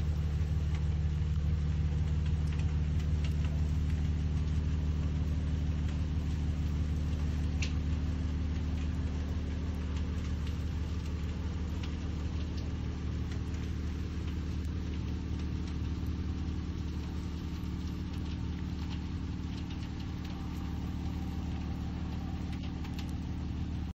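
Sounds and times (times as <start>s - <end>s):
low engine drone: 0.0s - 23.9s.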